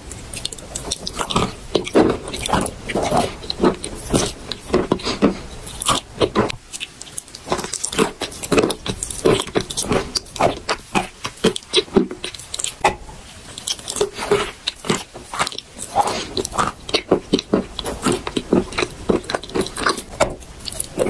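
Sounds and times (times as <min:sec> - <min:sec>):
chewing chalk crunching: 0:00.0 - 0:21.0.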